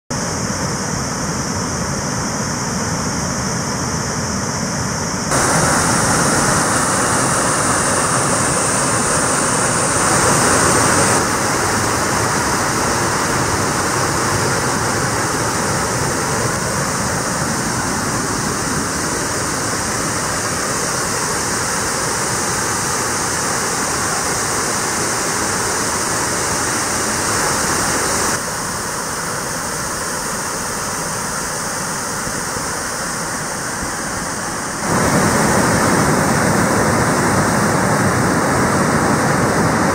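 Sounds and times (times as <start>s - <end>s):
waterfall rushing into pool: 5.3s - 39.9s.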